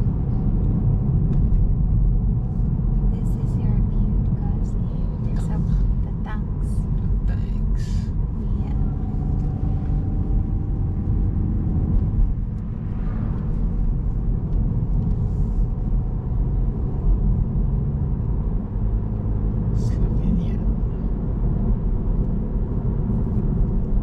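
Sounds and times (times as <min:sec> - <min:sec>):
car tyre and engine rumble: 0:00.0 - 0:24.0.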